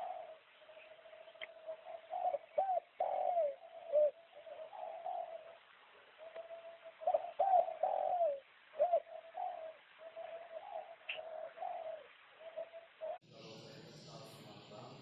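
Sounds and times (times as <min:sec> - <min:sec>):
dove cooing: 0:00.0 - 0:13.2.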